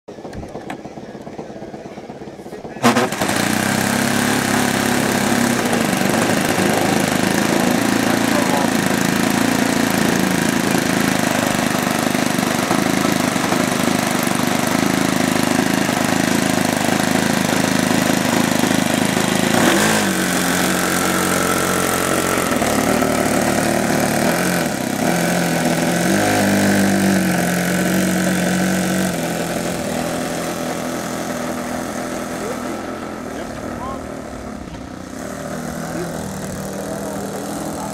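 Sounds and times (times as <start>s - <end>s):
model plane engine running: 0.3s - 37.9s.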